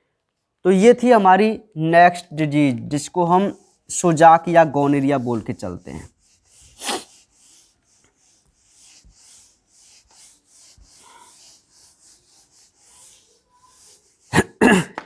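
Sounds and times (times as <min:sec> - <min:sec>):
scratchy rubbing strokes: 0:02.4 - 0:14.7.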